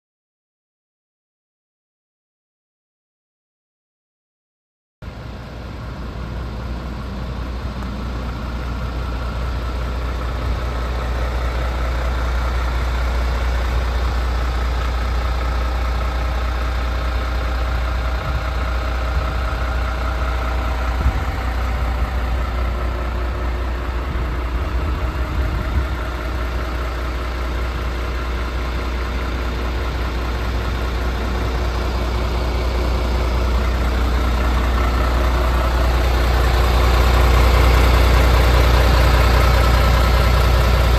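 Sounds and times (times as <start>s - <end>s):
diesel truck engine idling: 5.0s - 40.9s.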